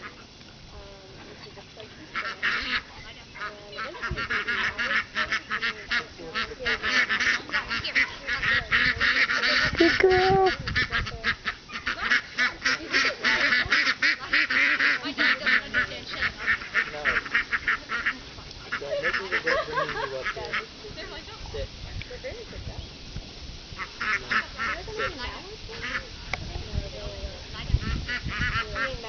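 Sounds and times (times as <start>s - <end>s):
flock of ducks quacking: 0.0s - 0.4s, 1.0s - 22.7s, 23.7s - 29.0s.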